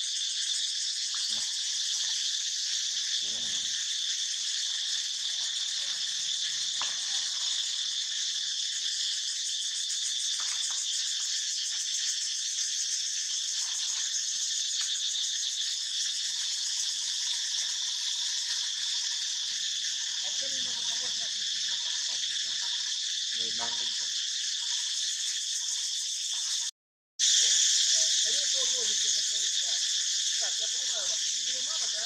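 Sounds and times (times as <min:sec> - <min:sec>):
insects buzzing: 0:00.0 - 0:32.0.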